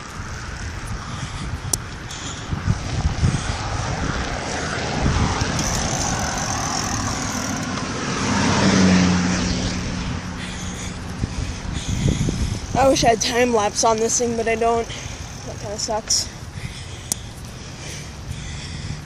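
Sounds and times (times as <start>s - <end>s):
wind and tyre noise: 0.0s - 19.0s
vehicle engine passing: 2.3s - 19.0s.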